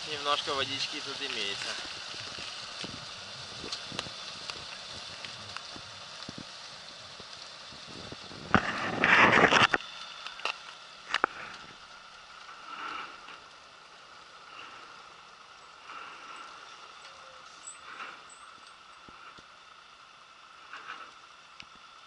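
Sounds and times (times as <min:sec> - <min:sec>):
ice crackles: 0:00.0 - 0:22.0
truck wading through water: 0:00.0 - 0:22.0.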